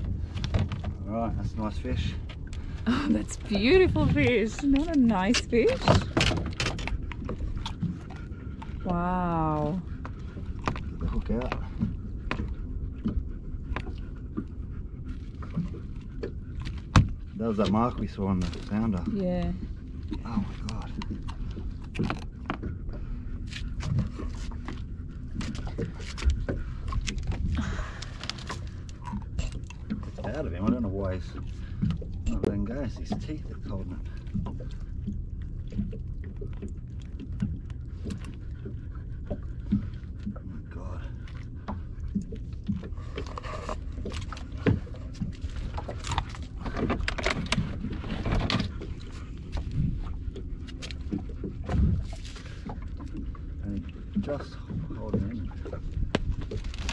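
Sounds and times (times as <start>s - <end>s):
low rumble: 0.0s - 56.9s.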